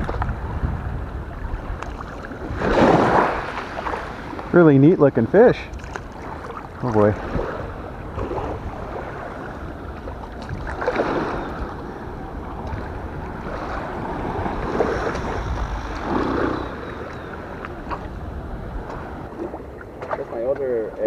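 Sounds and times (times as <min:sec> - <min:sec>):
small waves washing: 0:00.0 - 0:21.0
wind on microphone: 0:00.0 - 0:21.0.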